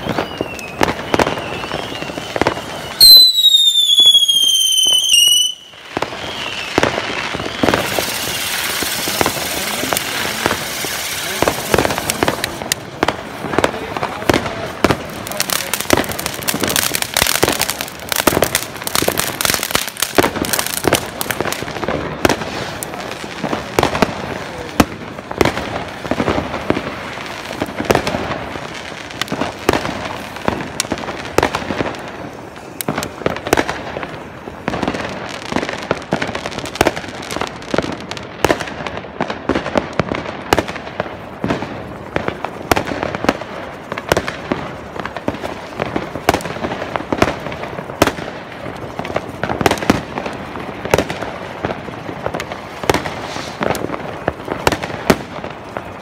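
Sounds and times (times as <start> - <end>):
firecrackers crackling and banging: 0.0 - 56.0
firework fountain spraying sparks: 0.0 - 56.0.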